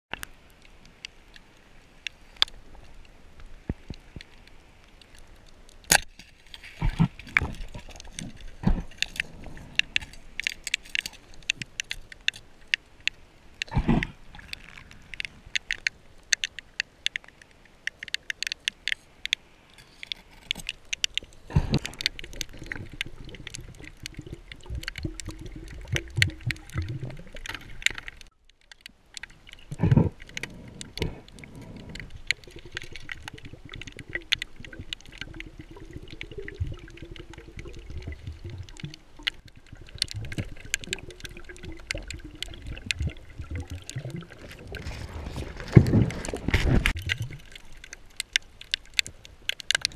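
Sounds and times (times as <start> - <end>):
underwater clicks and crackles: 0.1 - 49.9.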